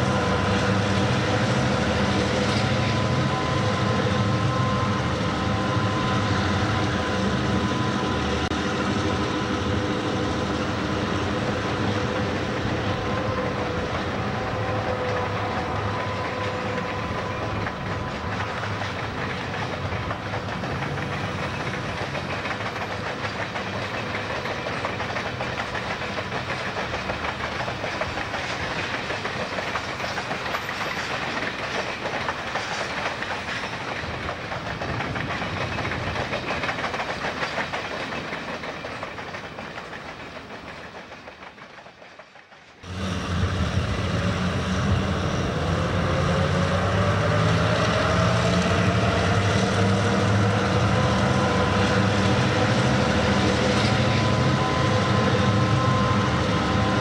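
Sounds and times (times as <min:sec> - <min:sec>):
locomotive hum: 0:00.0 - 0:57.0
train wheels clattering on rails: 0:00.0 - 0:57.0.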